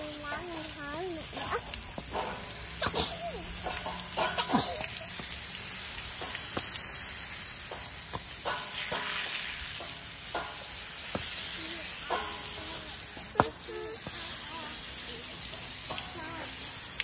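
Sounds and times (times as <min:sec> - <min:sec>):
water spraying on wet coat: 0:00.0 - 0:17.0
hose spray nozzle hissing: 0:00.2 - 0:17.0.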